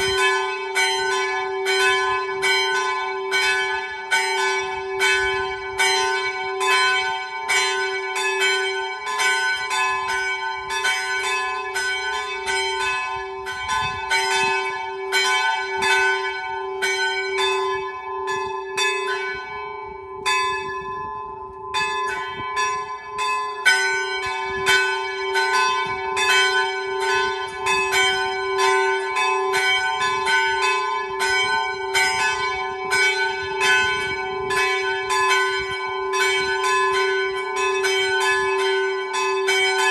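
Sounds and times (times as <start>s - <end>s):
small church bells pealing: 0.0s - 39.9s.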